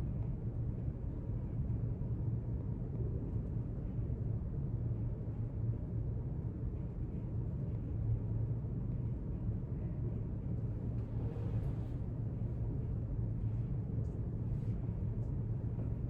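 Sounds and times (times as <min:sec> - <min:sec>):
low room hum and rumble: 0:00.0 - 0:16.0.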